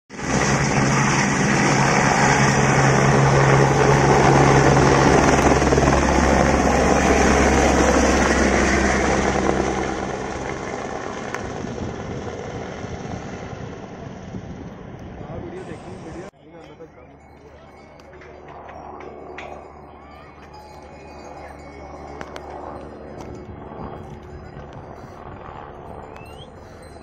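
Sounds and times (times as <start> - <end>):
helicopter rotor and turbine: 0.1 - 27.0.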